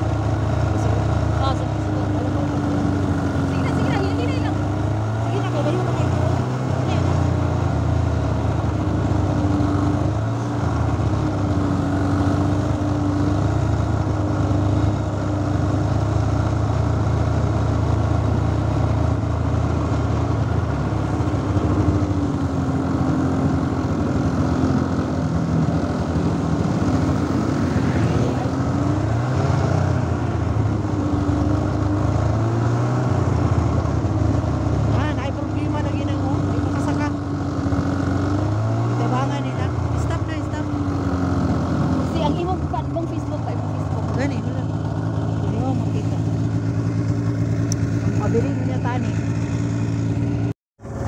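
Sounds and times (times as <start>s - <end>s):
snowmobile engine running: 0.0s - 51.0s.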